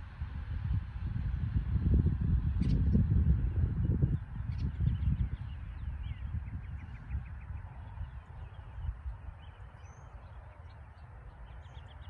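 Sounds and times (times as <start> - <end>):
steady low rumble: 0.0 - 12.0
songbirds chirping: 2.0 - 12.0.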